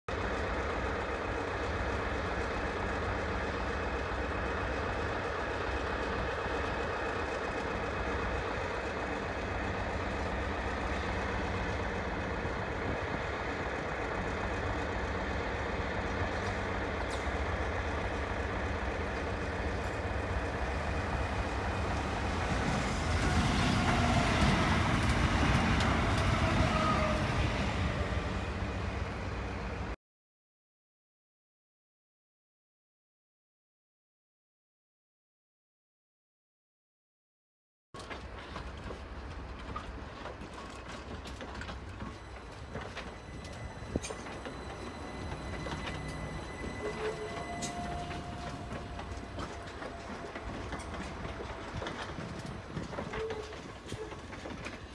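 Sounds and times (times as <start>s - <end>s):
train rumbling: 0.1s - 30.0s, 38.0s - 54.9s.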